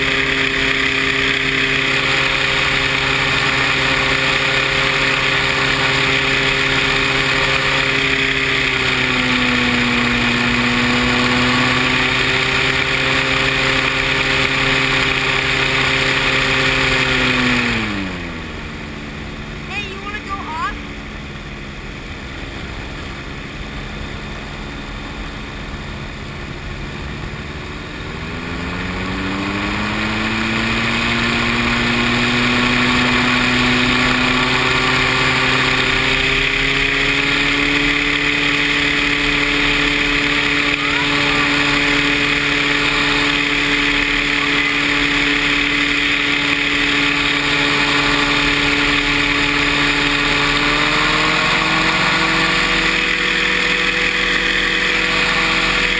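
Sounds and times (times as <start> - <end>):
engine speeding up: 0.0 - 55.9.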